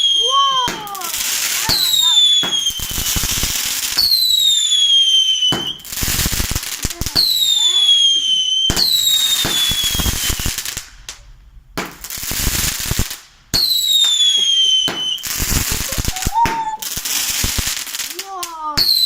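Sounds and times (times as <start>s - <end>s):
firework shots firing: 0.0s - 19.0s
rapid crackling bursts: 0.0s - 19.0s.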